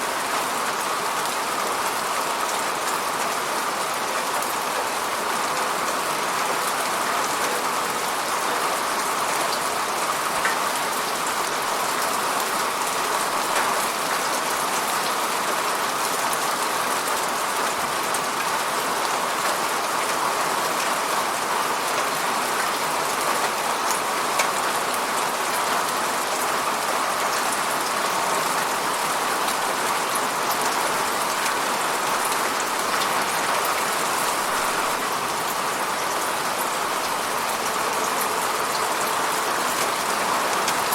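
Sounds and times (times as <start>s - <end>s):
rain hitting a window: 0.0s - 40.9s.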